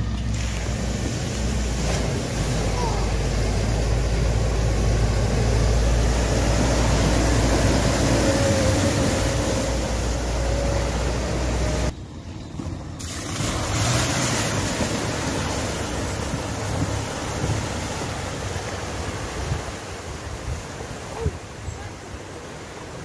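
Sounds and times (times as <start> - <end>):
car spraying through water: 0.0 - 11.9, 12.9 - 23.0
tractor engine running: 0.0 - 19.4
water splashing under wheels: 0.0 - 23.0.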